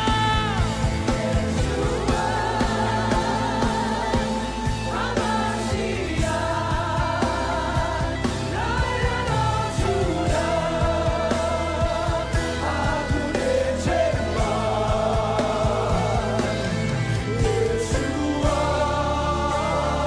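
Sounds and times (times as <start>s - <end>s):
band with steady bass: 0.0s - 20.0s
voices singing gospel: 0.0s - 20.0s.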